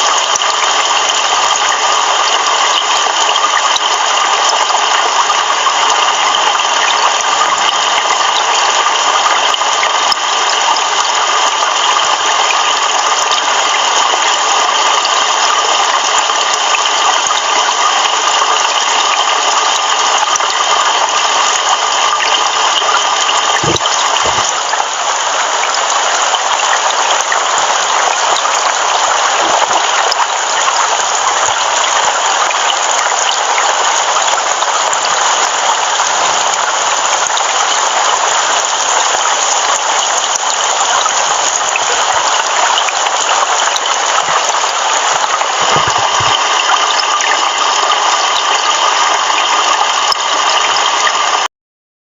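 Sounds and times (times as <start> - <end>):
heavy rain pouring: 0.0 - 51.5.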